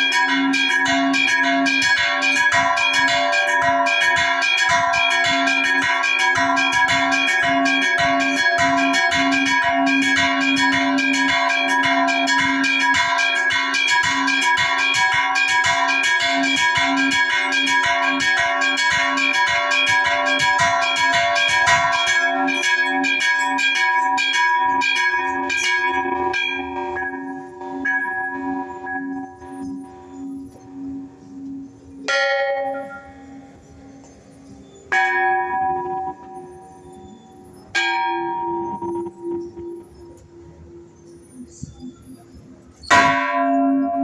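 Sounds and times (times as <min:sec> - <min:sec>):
church bells ringing festive peal: 0:00.0 - 0:44.0.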